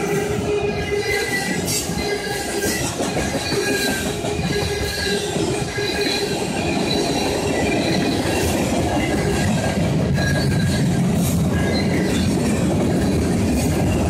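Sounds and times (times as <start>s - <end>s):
wheels squealing: 0.0s - 14.0s.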